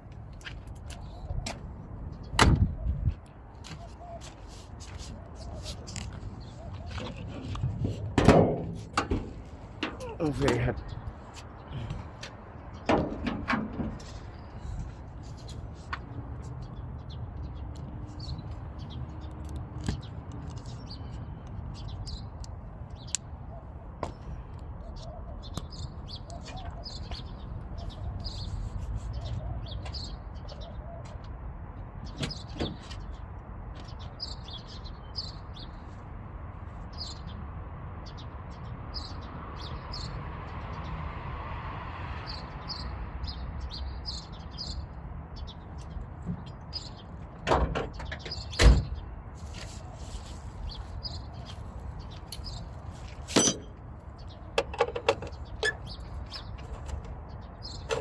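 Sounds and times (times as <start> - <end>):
small birds chirping: 0.4 - 8.1, 9.4 - 13.0, 14.0 - 41.0, 42.2 - 58.0.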